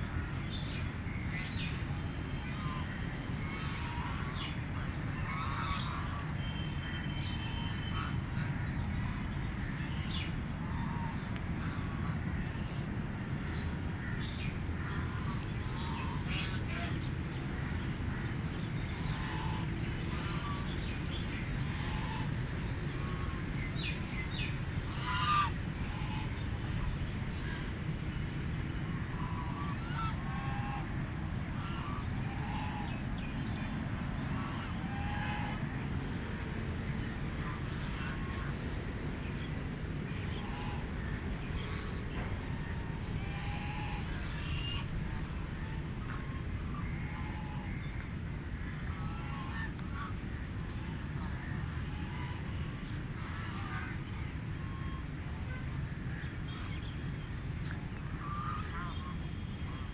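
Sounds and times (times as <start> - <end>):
low background rumble: 0.0 - 59.9
ducks quacking: 1.3 - 6.4, 14.0 - 27.6, 28.8 - 33.3, 34.2 - 59.9.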